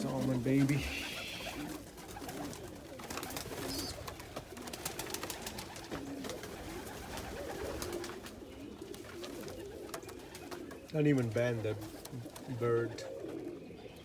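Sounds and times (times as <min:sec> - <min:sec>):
birds clicking and rustling: 0:00.0 - 0:14.0
pigeons cooing: 0:00.0 - 0:14.0.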